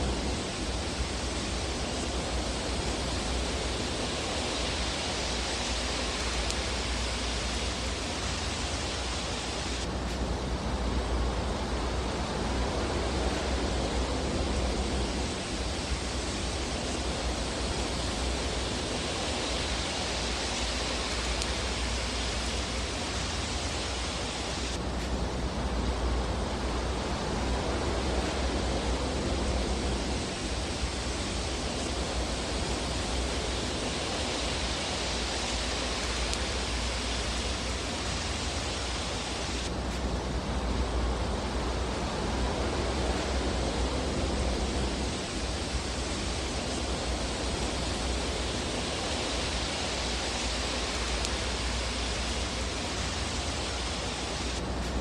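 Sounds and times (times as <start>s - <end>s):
fireplace fire rushing: 0.0s - 55.0s.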